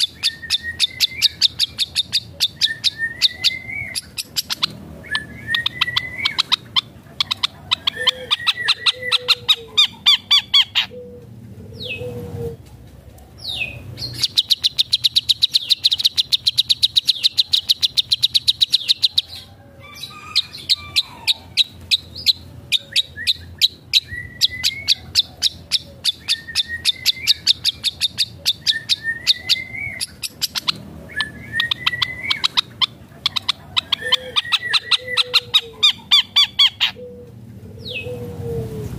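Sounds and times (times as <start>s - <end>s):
shrike singing: 0.0s - 11.2s, 13.4s - 37.2s.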